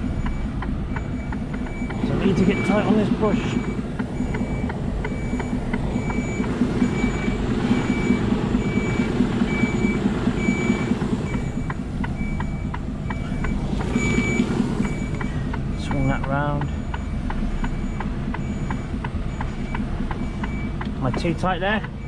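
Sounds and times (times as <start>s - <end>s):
diesel engine humming: 0.0s - 22.0s
reversing alarm beeps: 0.0s - 22.0s.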